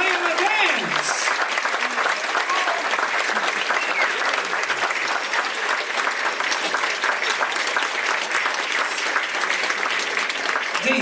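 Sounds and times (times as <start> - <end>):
audience clapping: 0.0 - 11.0.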